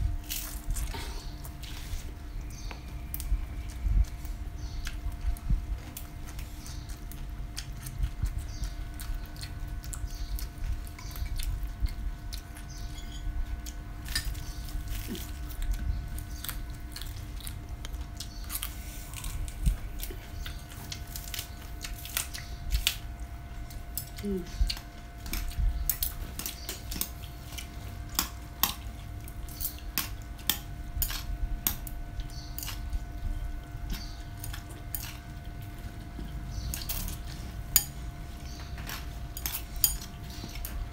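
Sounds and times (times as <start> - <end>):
chewing crisp vegetables: 0.0 - 40.9.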